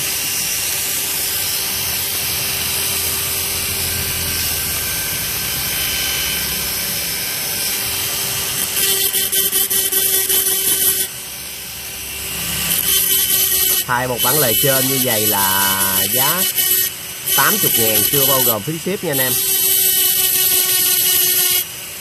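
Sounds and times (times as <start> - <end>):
rotary tool grinding metal: 0.0 - 22.0.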